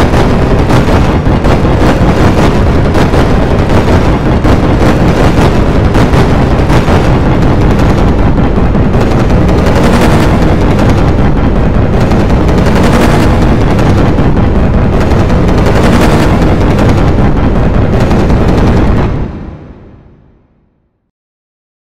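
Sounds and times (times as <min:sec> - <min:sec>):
distorted overlapping audio clips: 0:00.0 - 0:20.6.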